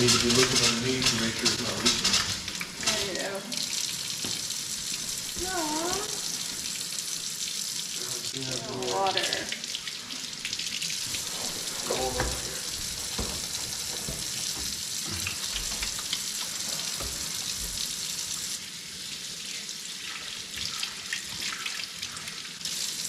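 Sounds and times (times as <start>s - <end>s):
faucet spitting and gurgling: 0.0s - 18.6s.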